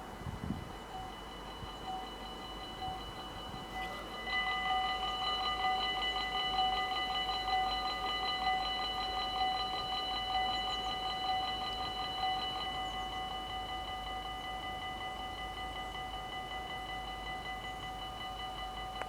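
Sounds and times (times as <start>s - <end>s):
level crossing warning bells: 0.0s - 19.0s.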